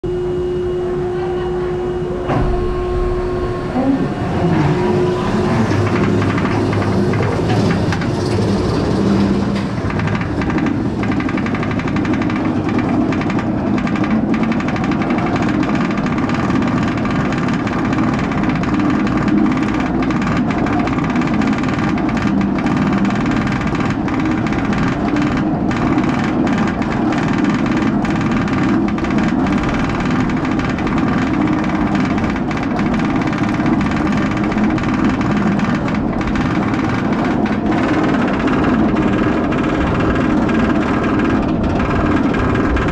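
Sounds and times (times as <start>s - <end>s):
constant mechanical drone: 0.0s - 42.9s.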